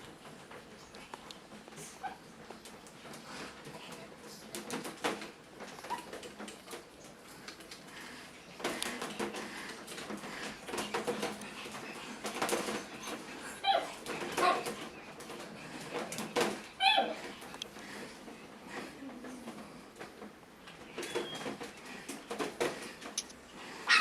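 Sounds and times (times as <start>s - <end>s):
puppy paws tapping and scuffling: 0.0s - 24.0s.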